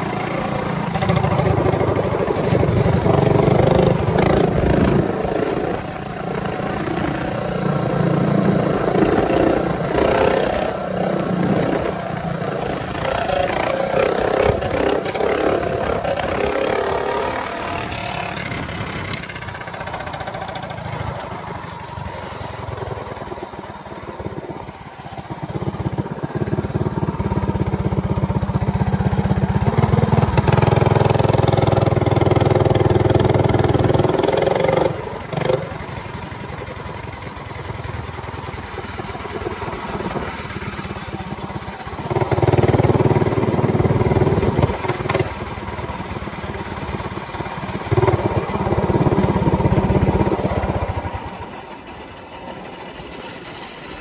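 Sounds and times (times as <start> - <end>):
minibike engine revving: 0.0 - 54.0.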